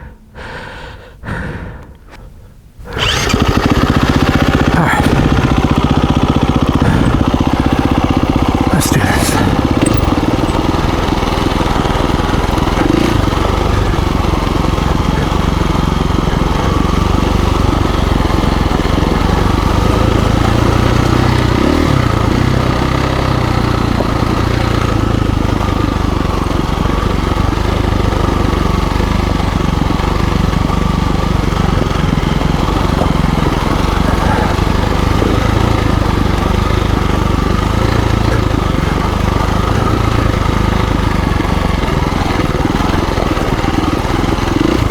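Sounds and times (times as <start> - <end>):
dirt bike engine running: 2.9 - 44.9.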